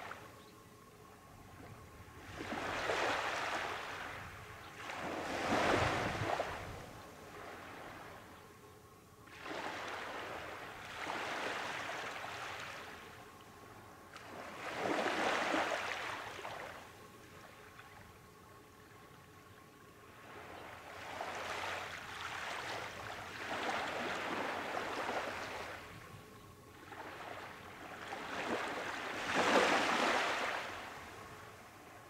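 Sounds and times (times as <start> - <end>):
small waves breaking on sand: 2.1 - 8.3, 9.2 - 13.3, 14.1 - 18.0, 20.1 - 32.0.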